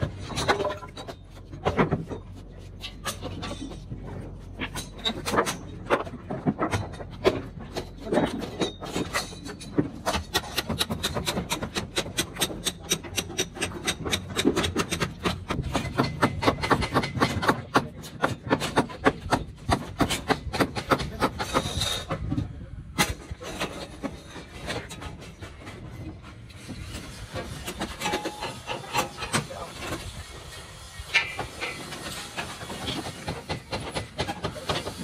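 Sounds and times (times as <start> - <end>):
construction knocks and clatter: 0.0 - 35.0.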